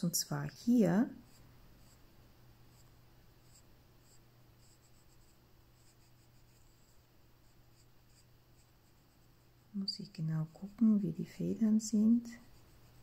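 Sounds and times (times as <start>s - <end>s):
low steady hum: 0.0s - 13.0s
pencil scratching on paper: 1.2s - 2.0s, 2.7s - 13.0s.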